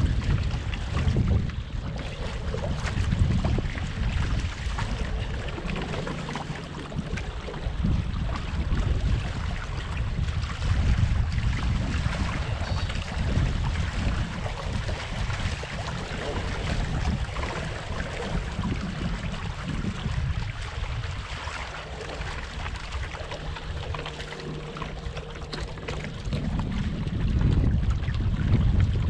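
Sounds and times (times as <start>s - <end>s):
water rushing past boat: 0.0s - 29.0s
wind buffeting microphone: 0.0s - 29.0s.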